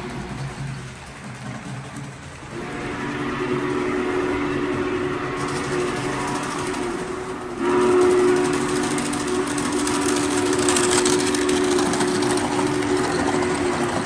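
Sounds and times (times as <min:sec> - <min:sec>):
model train cars rattling: 0:00.0 - 0:14.0
steam locomotive whistle blast: 0:02.5 - 0:14.0.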